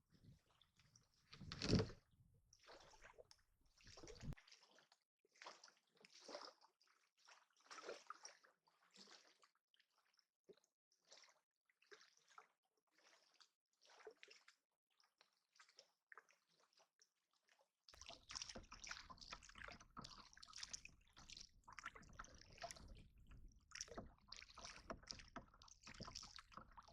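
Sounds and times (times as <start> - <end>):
water lapping and splashing: 0.3 - 10.2, 11.0 - 14.5, 17.4 - 26.9.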